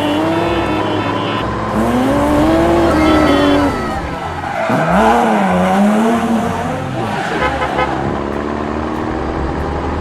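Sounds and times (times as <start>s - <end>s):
cartoon vehicle engine: 0.0s - 10.0s.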